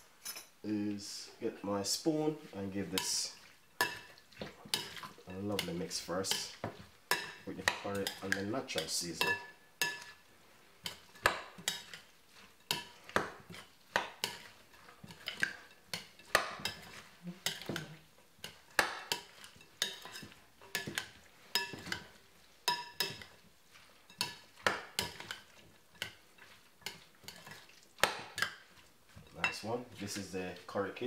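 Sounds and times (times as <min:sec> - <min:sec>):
spoon stirring in a bowl: 0:01.8 - 0:31.0.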